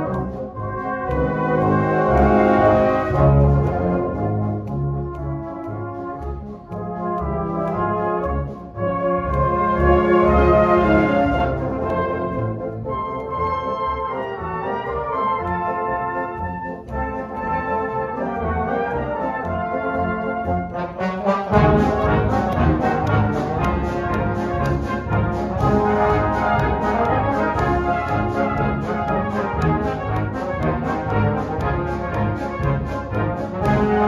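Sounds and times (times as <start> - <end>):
brass band playing march: 0.0 - 34.0.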